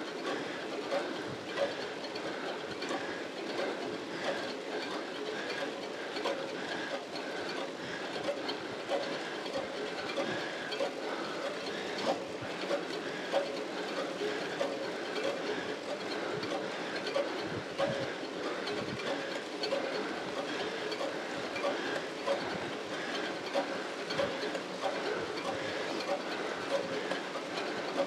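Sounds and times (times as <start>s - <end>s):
heavy rhythmic breathing: 0.0s - 28.0s.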